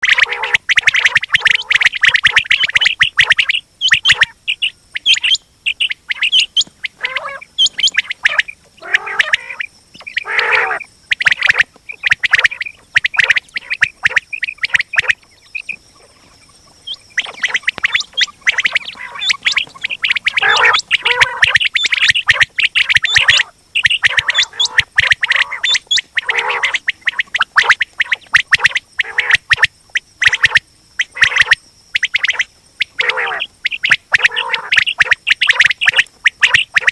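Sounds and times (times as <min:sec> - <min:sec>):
quail calling: 0:00.0 - 0:36.9.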